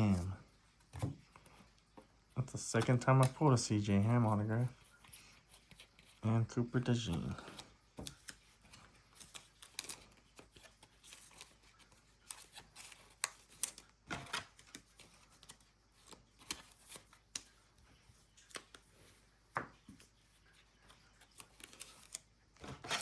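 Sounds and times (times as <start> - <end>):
trading cards clicking and rustling: 2.4 - 6.2, 6.8 - 23.0.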